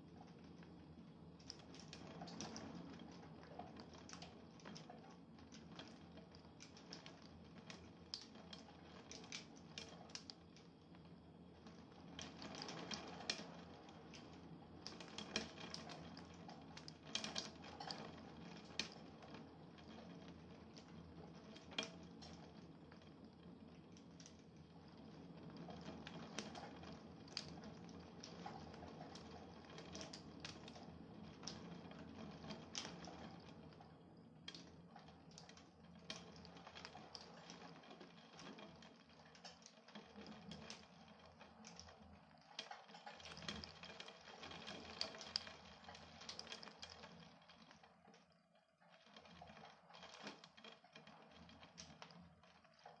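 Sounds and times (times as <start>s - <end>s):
raindrops ticking on hard surface: 0.0s - 53.0s
soft steady rain hiss: 0.0s - 53.0s.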